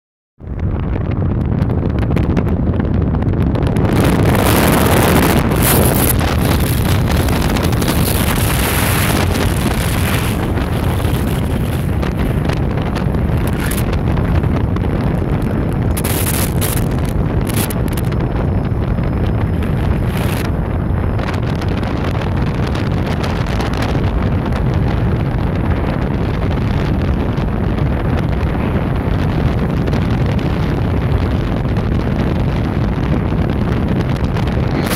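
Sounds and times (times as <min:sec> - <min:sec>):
wind rushing over microphone: 0:00.4 - 0:34.9
car road noise: 0:00.6 - 0:34.9.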